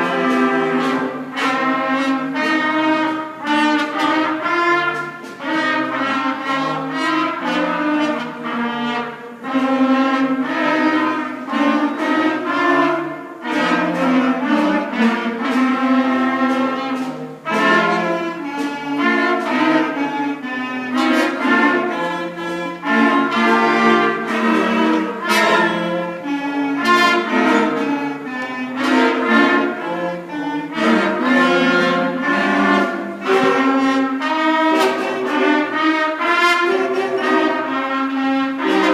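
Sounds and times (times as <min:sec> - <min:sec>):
school concert band playing: 0:00.0 - 0:38.9.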